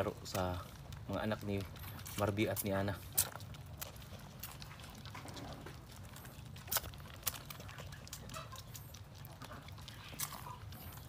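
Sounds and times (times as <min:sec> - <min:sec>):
goat kids sucking from bottles: 0:00.0 - 0:11.0
low steady hum: 0:00.0 - 0:11.0.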